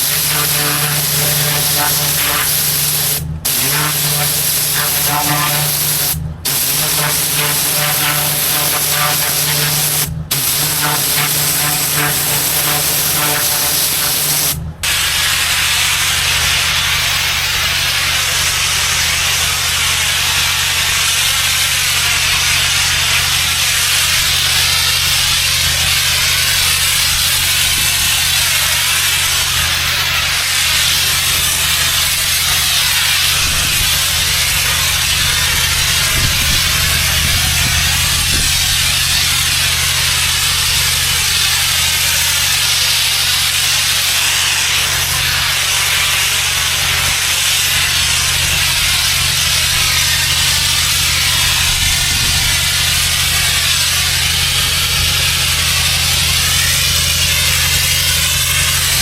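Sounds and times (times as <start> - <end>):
high-pressure water jet hissing: 0.0 - 59.0
pressure washer engine drone: 0.0 - 59.0.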